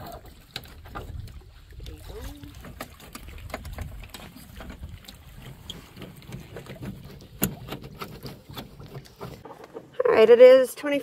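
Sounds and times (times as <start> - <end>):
paddles knocking against boat: 0.0 - 10.0.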